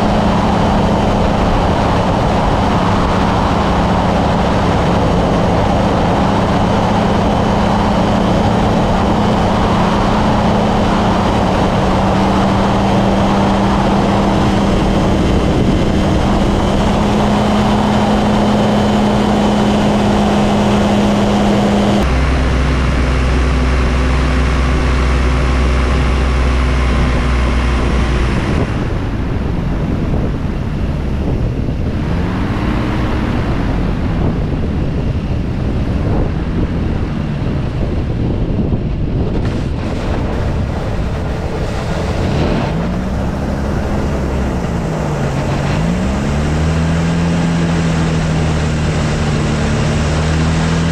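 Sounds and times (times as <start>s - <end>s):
aircraft engine droning: 0.0s - 50.9s
wind noise: 0.0s - 50.9s.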